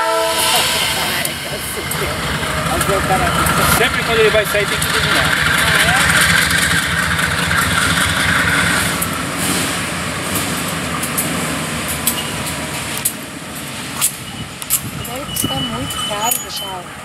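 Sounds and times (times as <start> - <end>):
locomotive engines running: 0.0 - 17.0.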